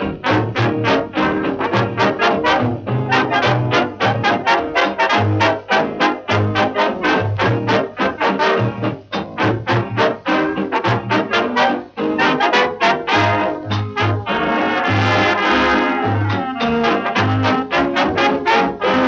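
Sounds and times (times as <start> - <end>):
big band swing music: 0.0 - 19.0.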